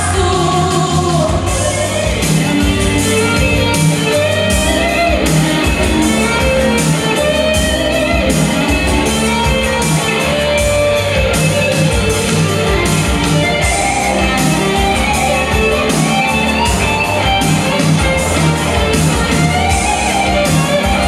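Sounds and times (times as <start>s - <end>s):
instrumental backing track with beat: 0.0s - 21.0s.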